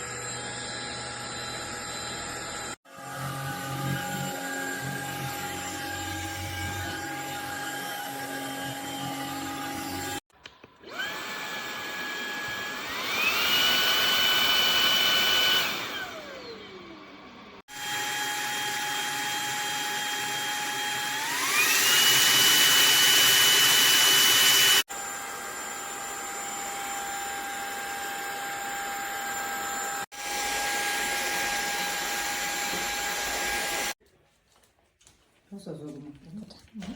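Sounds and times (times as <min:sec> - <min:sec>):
vacuum cleaner motor whining: 0:00.0 - 0:34.0.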